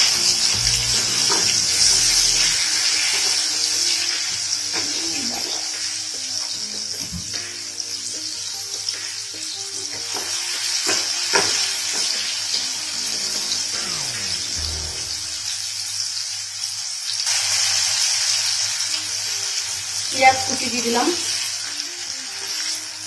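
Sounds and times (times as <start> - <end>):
garlic sizzling in hot oil: 0.0 - 23.0.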